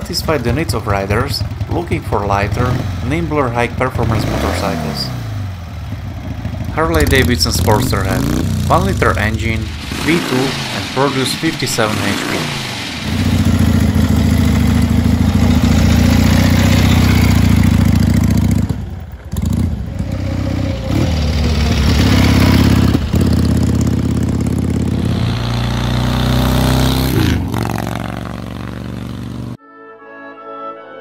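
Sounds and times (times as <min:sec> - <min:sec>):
motorcycle engine revving: 0:00.0 - 0:29.6.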